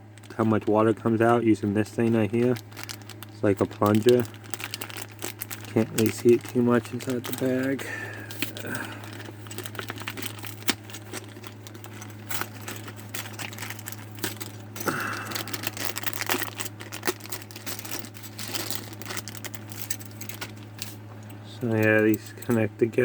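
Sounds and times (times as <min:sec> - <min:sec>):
plastic bag crinkling: 0:00.0 - 0:22.6
steady low hum: 0:00.0 - 0:23.0
plastic parts clicking: 0:02.0 - 0:21.0.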